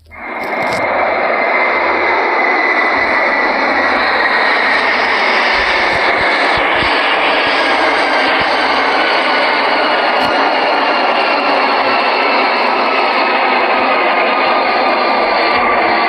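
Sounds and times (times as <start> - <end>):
faint high whine: 0.0 - 16.0
jet engines rushing: 0.0 - 16.0.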